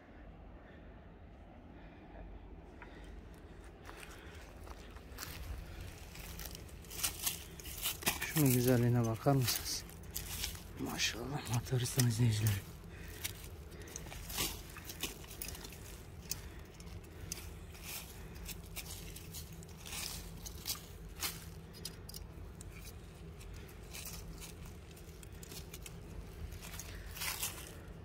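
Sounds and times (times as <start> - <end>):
knife scraping through dry leaves: 5.2 - 28.0.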